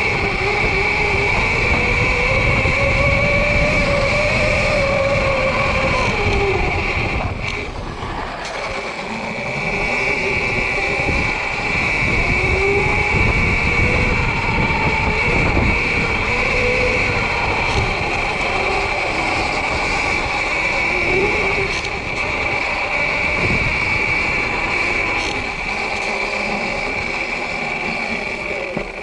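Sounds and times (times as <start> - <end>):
electric dirt bike motor whining: 0.0 - 29.0
steady higher whine: 0.0 - 29.0
wind and ground rumble: 0.0 - 29.0.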